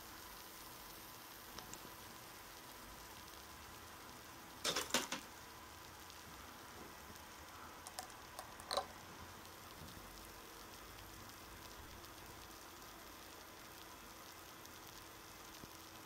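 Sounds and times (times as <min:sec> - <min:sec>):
acid fizzing on rock: 0:00.0 - 0:16.0.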